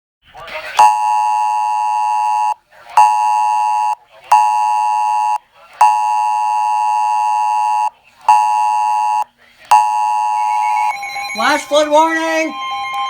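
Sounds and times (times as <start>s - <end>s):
electronic alert beeps: 0.8s - 13.0s.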